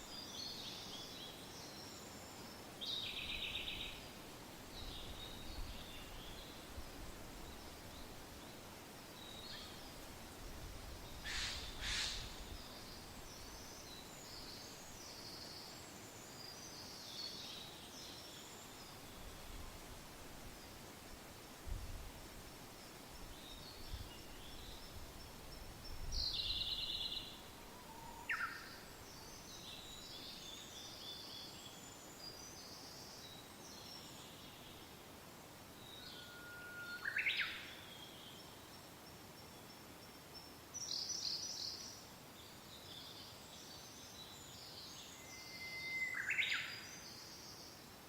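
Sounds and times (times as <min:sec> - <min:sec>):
songbirds singing: 0:00.0 - 0:10.1, 0:10.9 - 0:19.5, 0:22.8 - 0:35.0, 0:35.7 - 0:47.9
soft wind: 0:00.0 - 0:48.0.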